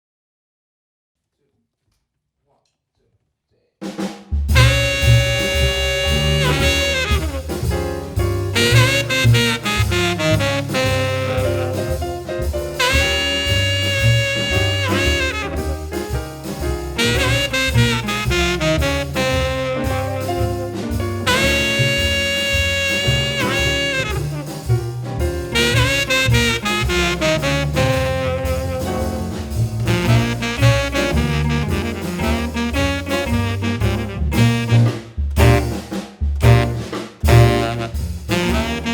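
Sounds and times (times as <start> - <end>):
swing jazz band playing: 4.4 - 38.9.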